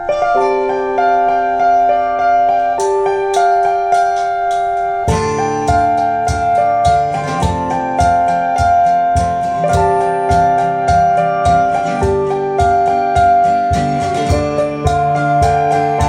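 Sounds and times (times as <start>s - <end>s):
held keyboard notes: 0.0s - 16.0s
steady drum beat: 2.8s - 16.0s.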